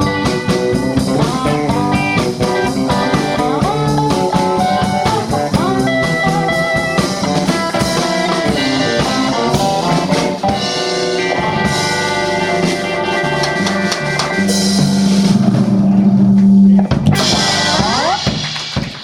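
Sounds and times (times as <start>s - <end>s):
live blues band playing: 0.0s - 19.0s.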